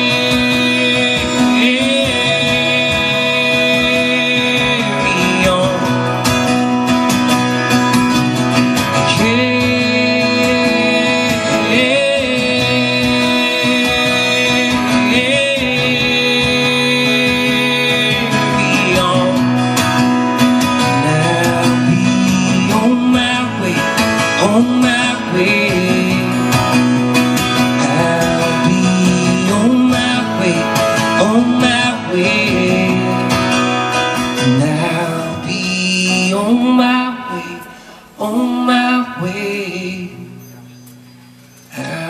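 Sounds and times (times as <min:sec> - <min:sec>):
acoustic guitars strummed: 0:00.0 - 0:42.0.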